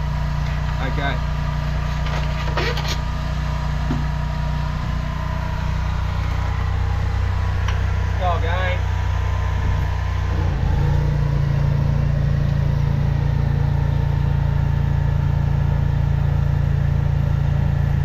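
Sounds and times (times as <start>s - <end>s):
drain jetter engine running: 0.0s - 18.0s.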